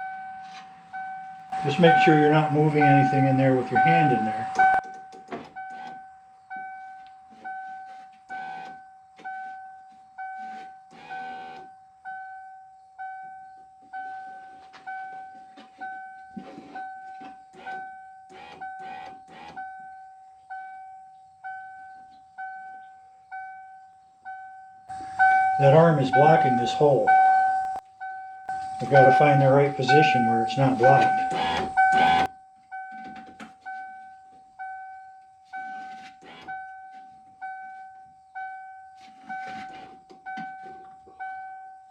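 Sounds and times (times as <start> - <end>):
dashboard warning chime dinging: 0.0 - 41.9.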